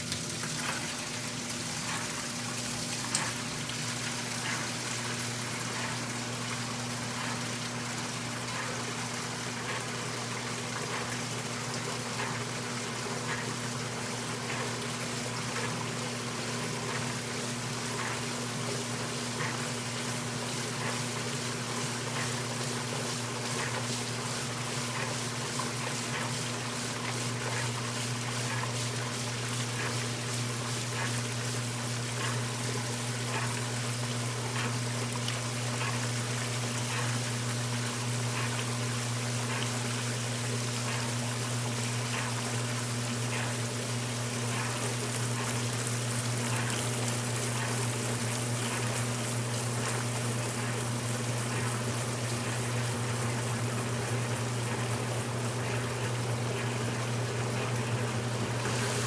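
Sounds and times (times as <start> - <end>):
washing machine electrical hum: 0.0 - 59.0
water trickling and splashing: 0.0 - 59.0.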